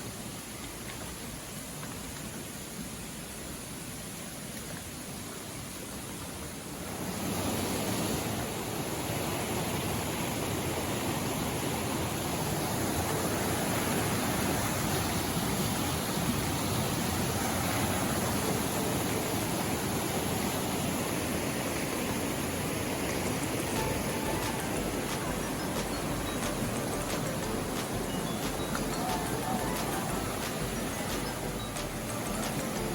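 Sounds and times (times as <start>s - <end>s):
flowing water rushing: 0.0s - 32.9s.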